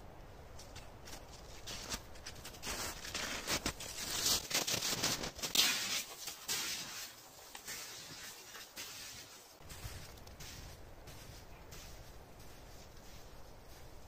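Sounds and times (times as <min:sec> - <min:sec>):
snowshoe steps crunching in snow: 0:00.6 - 0:14.0.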